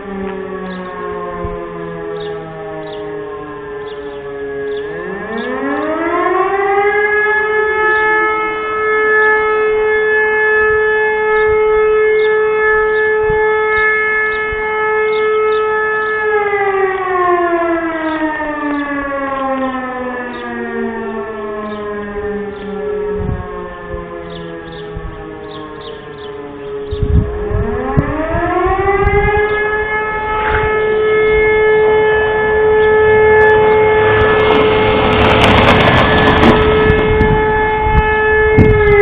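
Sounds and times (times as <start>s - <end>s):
distant sirens: 0.0s - 39.0s
electric motor siren wailing: 0.0s - 39.0s.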